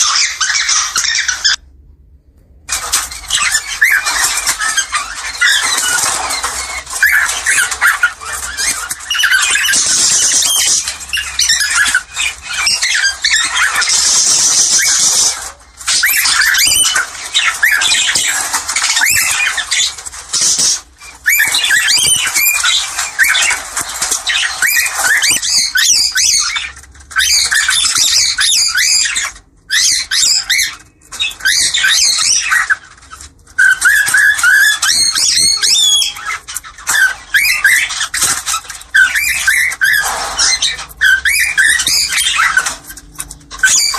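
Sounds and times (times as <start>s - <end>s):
cockatiels chirping and squawking: 0.0s - 1.6s, 2.7s - 43.9s.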